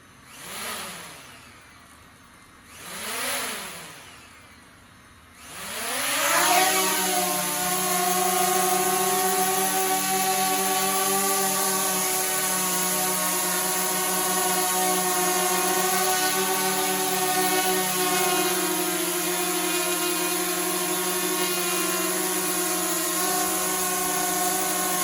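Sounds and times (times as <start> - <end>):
drone motors buzzing: 0.0 - 25.0.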